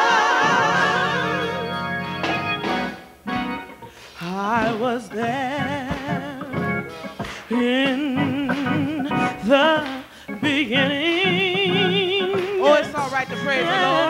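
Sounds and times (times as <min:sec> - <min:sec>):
woman singing gospel: 0:00.0 - 0:01.7, 0:04.2 - 0:14.0.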